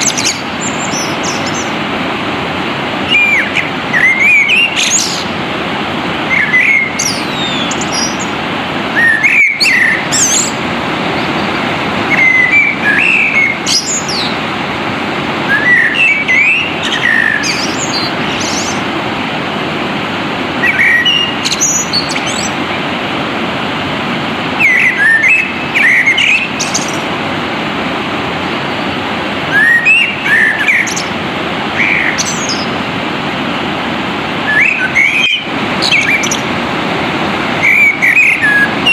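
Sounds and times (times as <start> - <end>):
birds chirping: 0.0 - 38.9
flowing water: 0.0 - 38.9.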